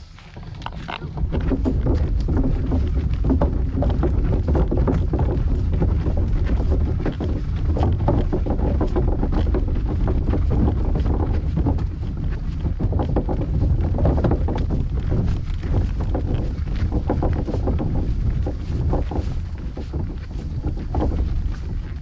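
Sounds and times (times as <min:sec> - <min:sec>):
footsteps on gravel: 0:00.0 - 0:22.0
wind buffeting microphone: 0:00.0 - 0:22.0.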